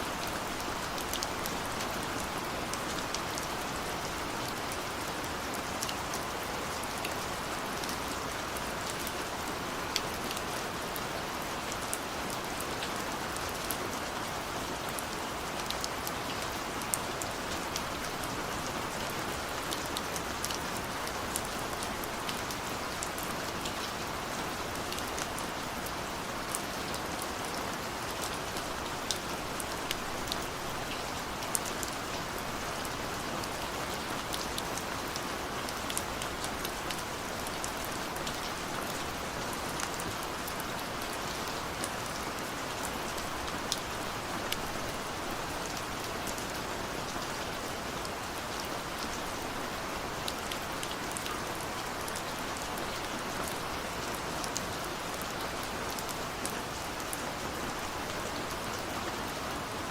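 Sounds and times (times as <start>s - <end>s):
rain on a window: 0.0s - 59.9s.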